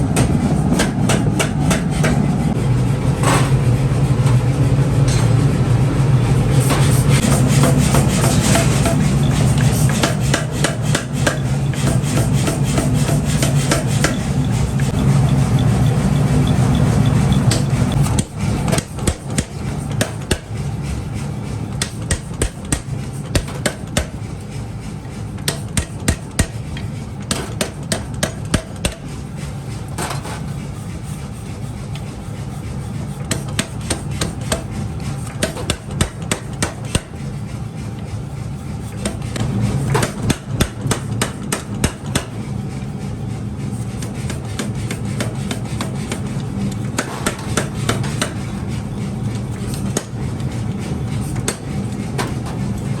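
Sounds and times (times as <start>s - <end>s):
low machine hum: 0.0s - 53.0s.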